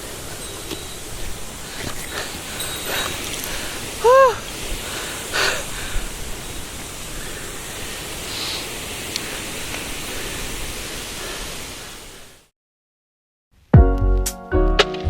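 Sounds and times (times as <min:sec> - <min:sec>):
river water rushing: 0:00.0 - 0:12.2.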